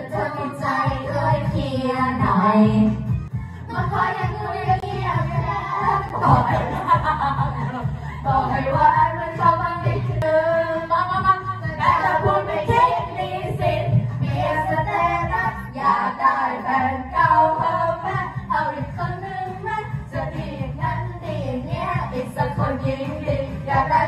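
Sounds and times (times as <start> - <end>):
karaoke backing track: 0.0 - 24.0
voices singing into microphones: 0.0 - 24.0.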